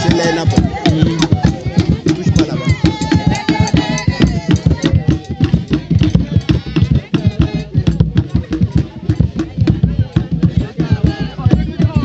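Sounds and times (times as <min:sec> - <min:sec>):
drums playing quick beat: 0:00.0 - 0:12.0
voices singing: 0:00.0 - 0:12.0.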